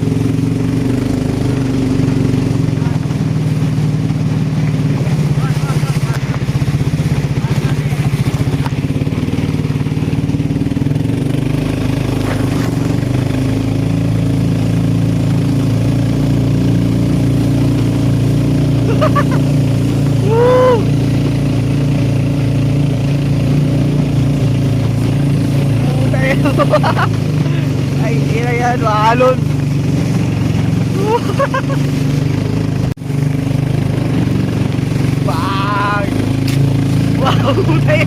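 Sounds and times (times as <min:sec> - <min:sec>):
vehicle engine running steadily: 0:00.0 - 0:38.0.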